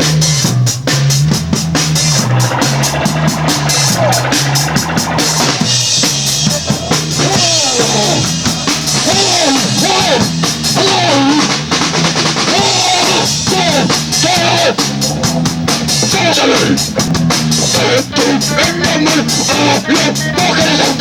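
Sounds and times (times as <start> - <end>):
live rock band playing: 0.0 - 21.0
lead line bending in pitch: 0.8 - 21.0.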